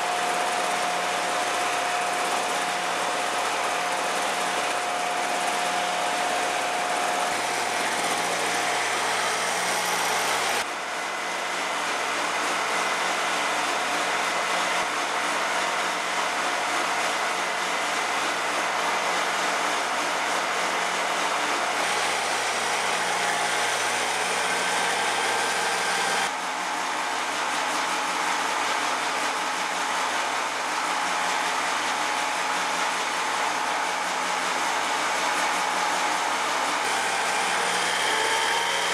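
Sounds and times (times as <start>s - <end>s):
woodworking machine whirring: 0.0s - 38.9s.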